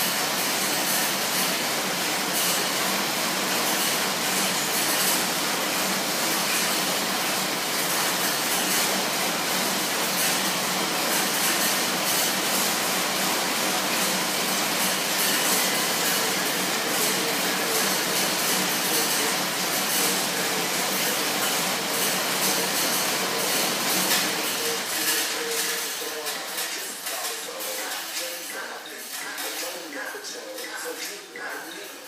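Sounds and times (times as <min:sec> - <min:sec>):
exercise bike fan whooshing: 0:00.0 - 0:29.8.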